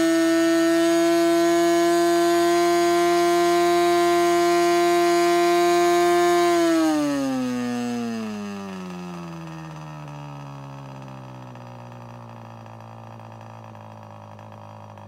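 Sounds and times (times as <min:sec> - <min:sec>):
model glow engine running: 0:00.0 - 0:15.0.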